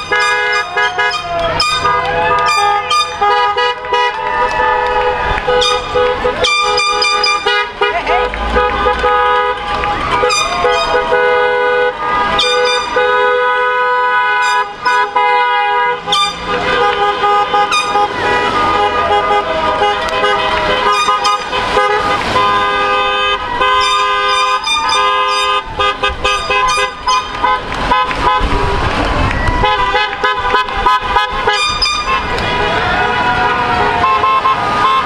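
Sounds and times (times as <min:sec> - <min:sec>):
car horns honking: 0:00.0 - 0:35.0.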